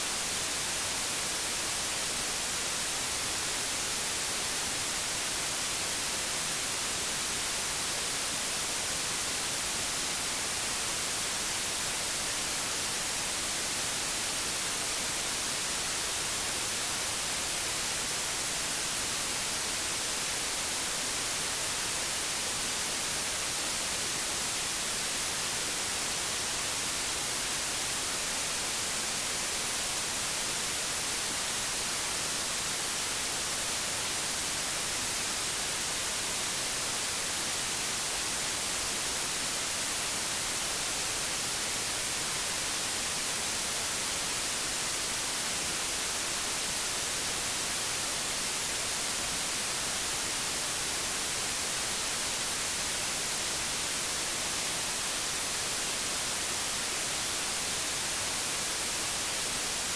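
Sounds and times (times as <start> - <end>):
television static hiss: 0.0 - 59.9.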